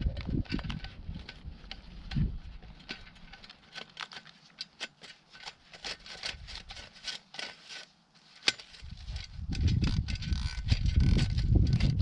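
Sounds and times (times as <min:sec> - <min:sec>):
ice auger crunching and scraping: 0:00.0 - 0:12.0.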